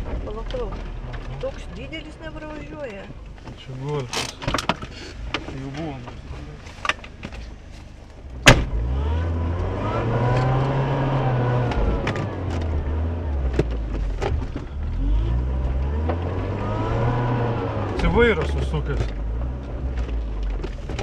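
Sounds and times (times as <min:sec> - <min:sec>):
car knocks and rattles: 0:00.0 - 0:09.0, 0:10.2 - 0:16.6, 0:17.2 - 0:21.0
car engine from inside cabin: 0:00.0 - 0:21.0.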